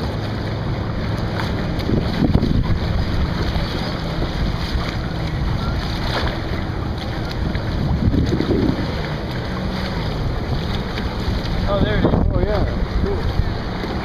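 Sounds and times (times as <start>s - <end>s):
small waves lapping: 0.0s - 14.0s
wind rumble on microphone: 0.0s - 14.0s.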